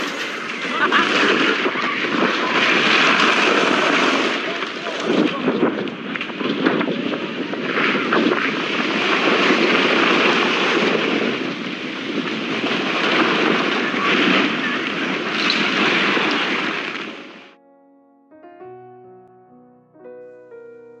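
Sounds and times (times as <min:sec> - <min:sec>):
debris flow rushing: 0:00.0 - 0:17.3.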